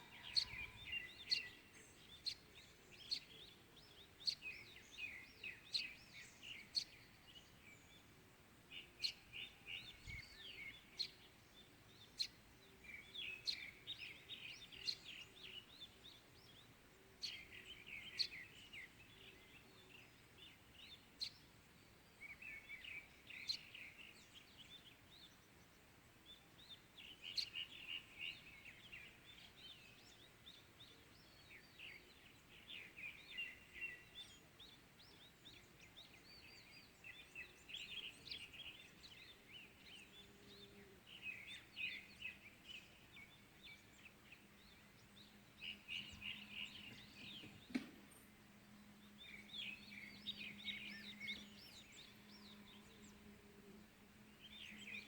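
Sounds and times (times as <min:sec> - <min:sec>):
faint outdoor hiss: 0:00.0 - 0:55.0
small birds chirping: 0:00.0 - 0:55.0.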